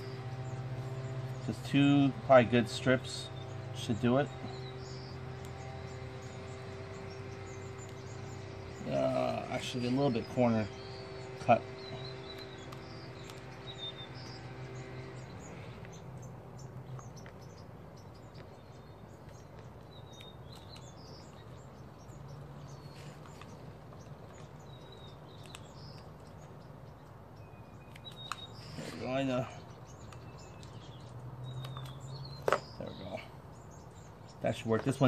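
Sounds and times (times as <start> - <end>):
low steady hum: 0.0 - 35.0
small birds chirping: 0.0 - 35.0.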